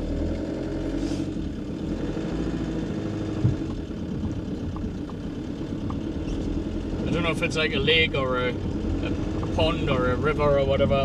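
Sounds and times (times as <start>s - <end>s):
van engine running: 0.0s - 11.0s.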